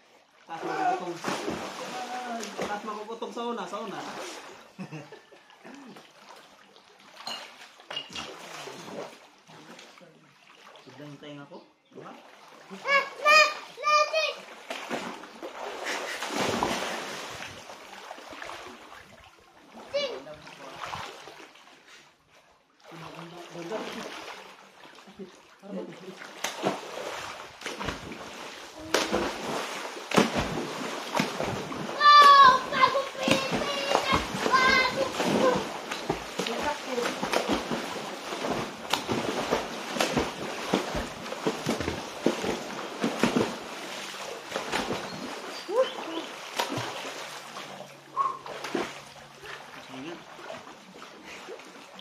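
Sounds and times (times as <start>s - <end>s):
water splashing and sloshing: 0.0s - 52.0s.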